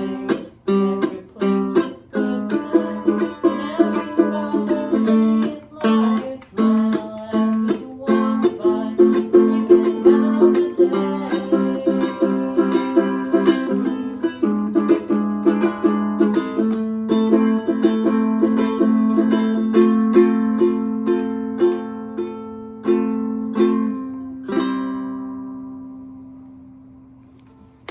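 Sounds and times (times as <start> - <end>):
plucked string instrument tune: 0.0 - 27.9.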